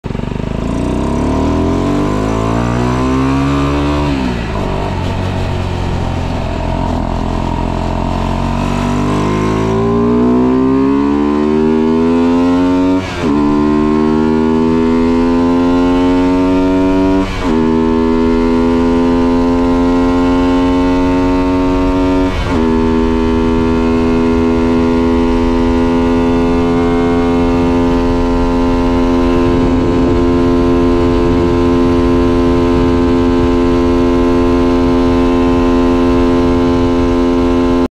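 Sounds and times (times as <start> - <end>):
motorcycle engine accelerating: 0.0 - 37.9.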